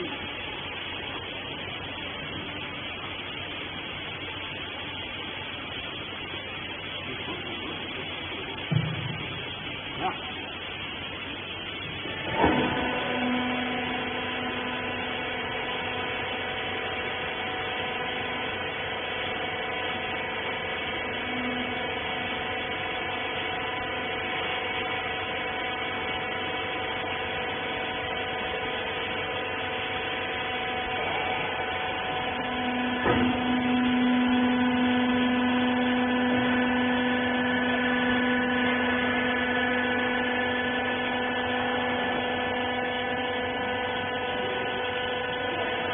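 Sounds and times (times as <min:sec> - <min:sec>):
hydraulic pump motor humming: 0:00.0 - 0:45.9.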